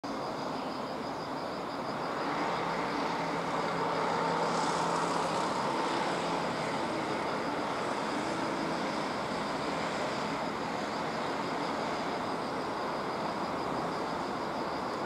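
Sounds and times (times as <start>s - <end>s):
distant machinery hum and hiss: 0.1s - 15.0s.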